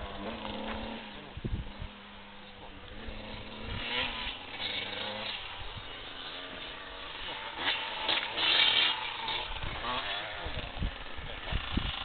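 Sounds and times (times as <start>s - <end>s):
distant motocross bike engine: 0.0s - 12.0s.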